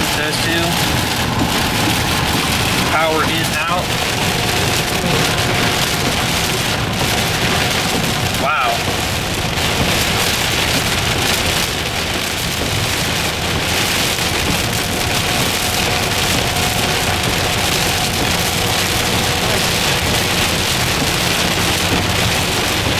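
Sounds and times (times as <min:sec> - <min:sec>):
heavy rain on car roof: 0:00.0 - 0:22.9.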